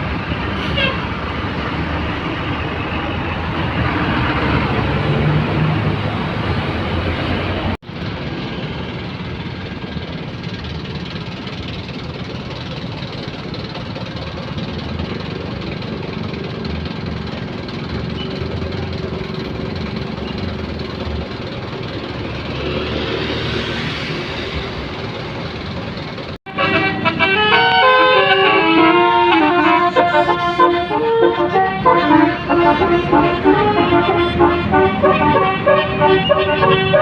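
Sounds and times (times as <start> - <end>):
tyre noise on road: 0.0 - 37.0
vehicle engines running: 0.0 - 37.0.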